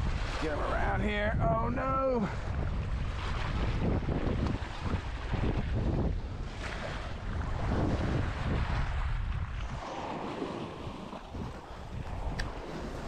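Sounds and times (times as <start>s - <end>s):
wind buffeting microphone: 0.0s - 13.0s
water sloshing and splashing: 2.2s - 13.0s.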